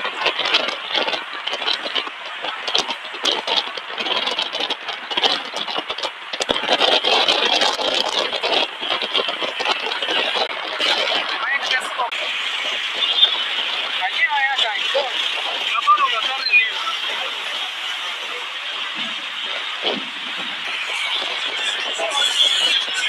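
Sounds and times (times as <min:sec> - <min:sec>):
road and wind noise in car: 0:00.0 - 0:23.0.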